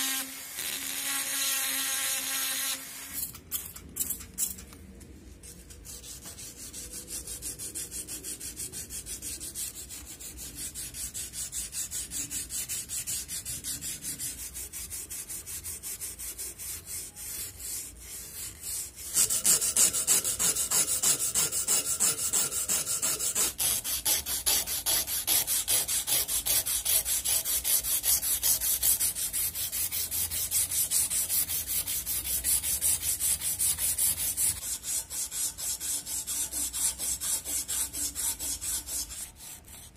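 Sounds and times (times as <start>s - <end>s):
abrasive cloth sanding steel: 5.7s - 39.9s.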